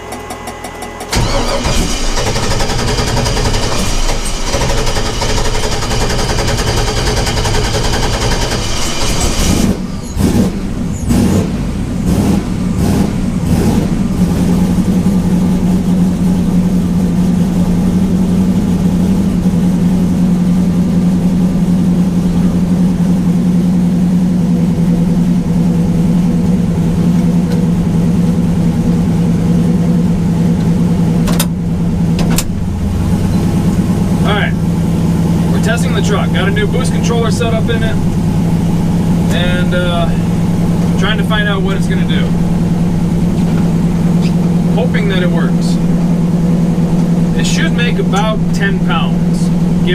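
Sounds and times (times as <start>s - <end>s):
pickup engine revving: 1.1s - 49.9s.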